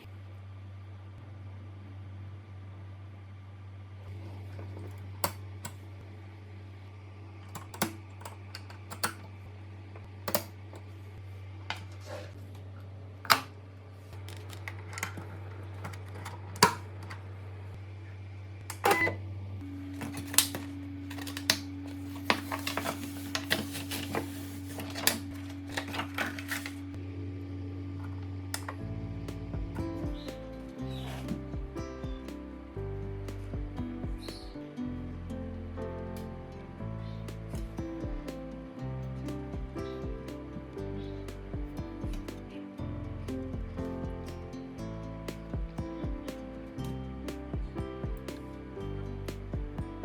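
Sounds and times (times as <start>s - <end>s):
steady higher hum: 0.0s - 50.0s
steady low hum: 0.0s - 50.0s.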